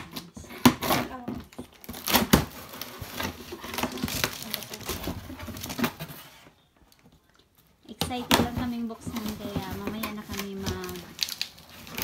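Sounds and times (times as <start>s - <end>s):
plastic packaging crinkling: 1.5s - 12.0s.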